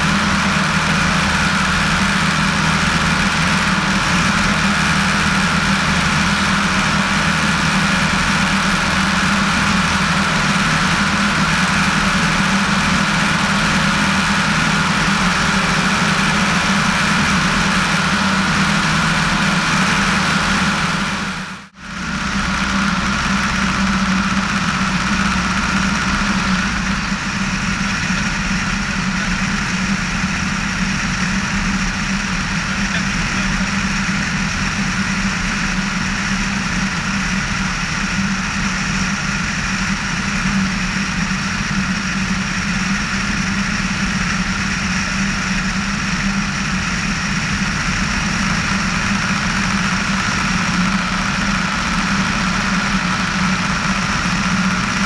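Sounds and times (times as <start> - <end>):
airplane engine and propeller droning: 0.0 - 55.0.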